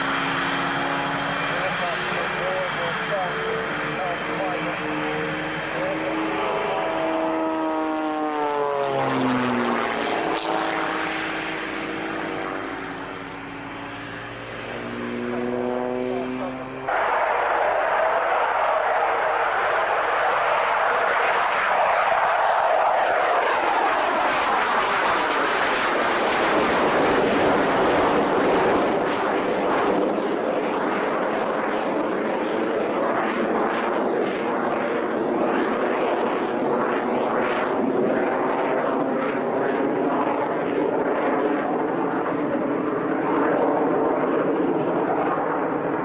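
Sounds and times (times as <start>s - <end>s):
jet aircraft passing overhead: 0.0s - 46.0s.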